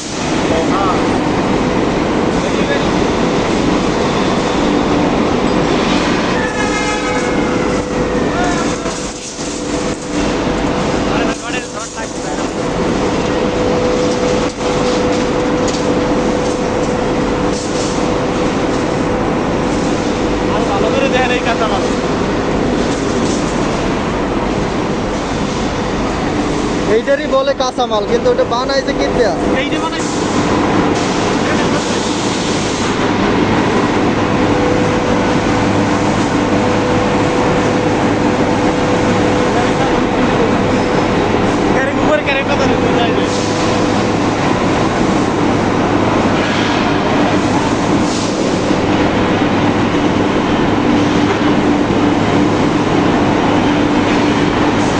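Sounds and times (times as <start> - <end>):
rolling mill machinery din: 0.0 - 54.9.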